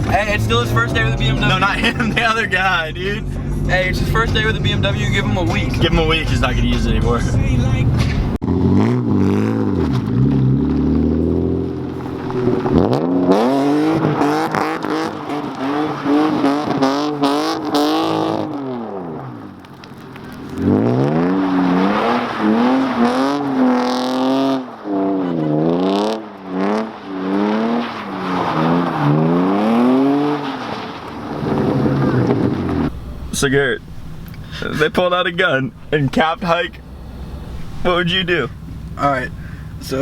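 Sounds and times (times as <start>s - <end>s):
car engine revving hard: 0.0s - 19.5s, 20.3s - 40.0s.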